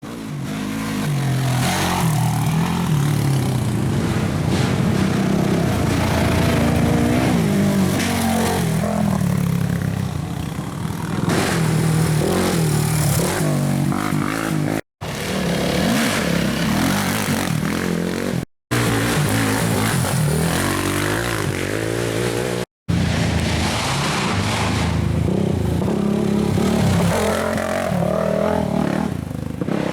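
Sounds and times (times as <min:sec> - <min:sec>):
atv engines revving: 0:00.0 - 0:29.9.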